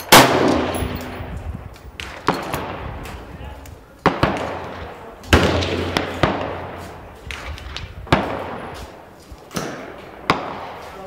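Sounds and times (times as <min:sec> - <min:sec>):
gunshots echoing: 0:00.0 - 0:03.0, 0:04.0 - 0:11.0.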